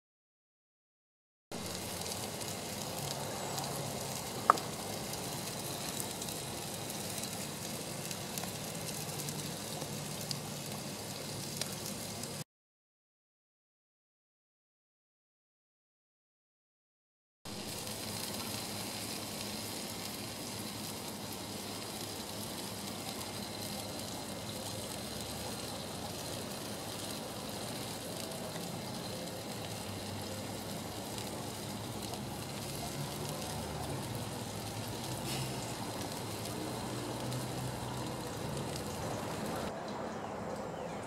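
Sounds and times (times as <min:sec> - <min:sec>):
ribs sizzling on grill: 0:01.6 - 0:12.4, 0:17.5 - 0:39.7.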